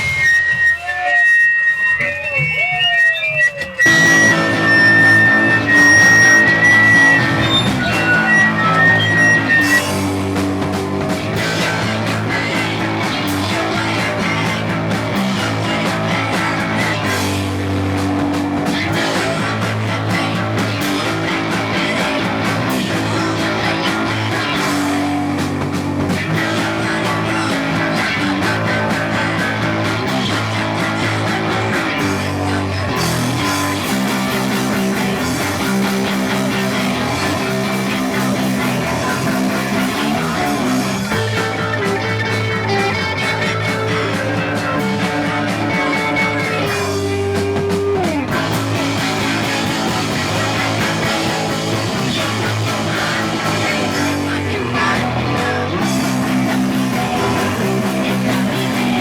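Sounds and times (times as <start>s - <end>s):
punk rock band playing live: 0.0s - 59.0s.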